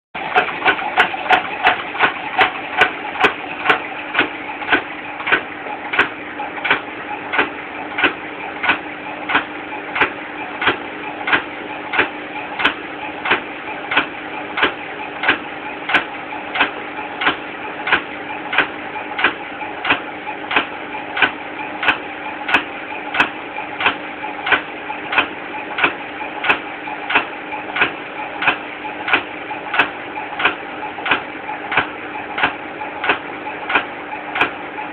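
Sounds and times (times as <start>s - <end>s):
washing machine drum knocking: 0.2s - 34.9s
washing machine motor hum: 0.2s - 34.9s.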